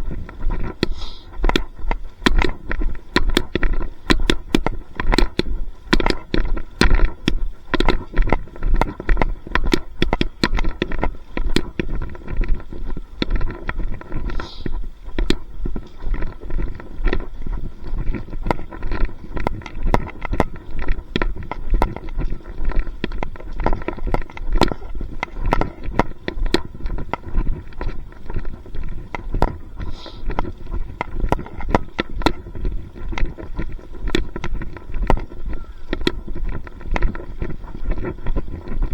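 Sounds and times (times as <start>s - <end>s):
footsteps walking: 0.0s - 38.9s
microphone handling thuds: 0.0s - 38.9s.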